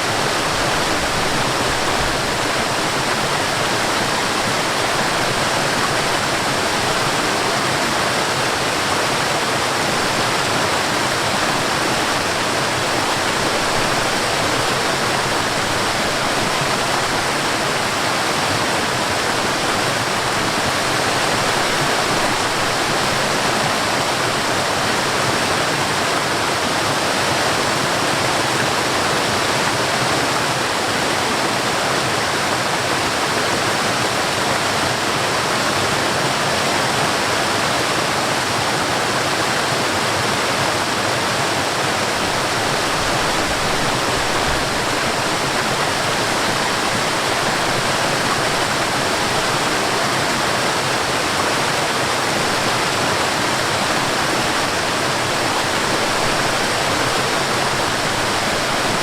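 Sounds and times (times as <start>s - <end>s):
water rushing over waterfall: 0.0s - 59.0s.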